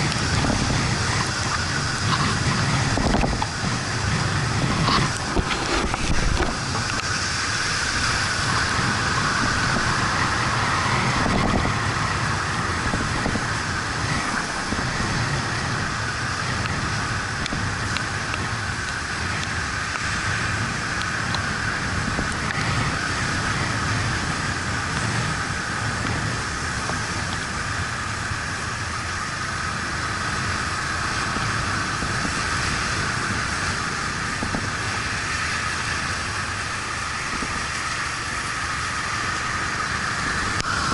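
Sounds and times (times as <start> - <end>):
motorcycle engine running: 0.0 - 40.9
tyres hissing on wet road: 0.0 - 40.9
wind rush: 0.0 - 40.9.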